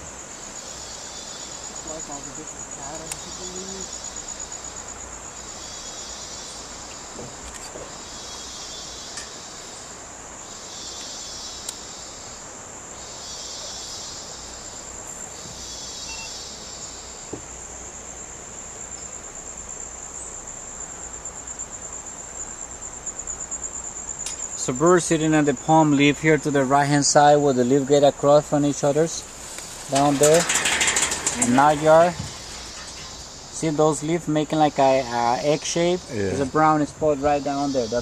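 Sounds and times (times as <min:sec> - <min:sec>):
high-pitched insect trill: 0:00.0 - 0:38.0
low insect buzzing chorus: 0:00.0 - 0:38.0.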